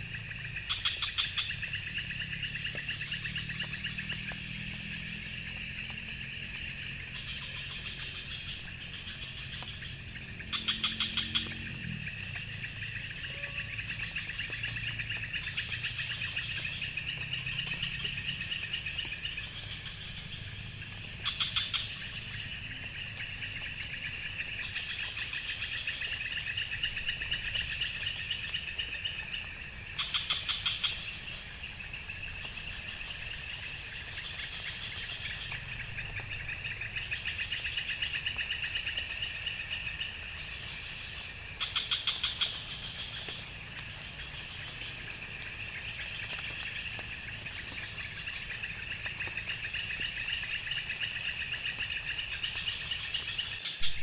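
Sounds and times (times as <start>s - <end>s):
insect chorus buzzing and trilling: 0.0s - 54.0s
louder pulsed insect call: 0.0s - 54.0s.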